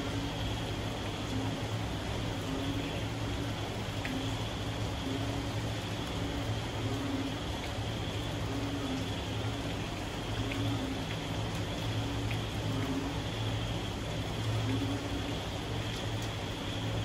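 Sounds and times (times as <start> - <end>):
frogs calling: 0.0 - 17.0
rain falling: 0.0 - 17.0.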